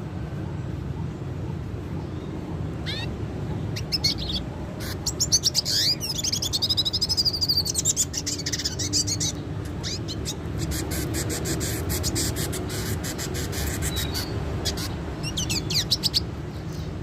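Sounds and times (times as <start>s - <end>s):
bird chirping and trilling: 1.8s - 17.0s.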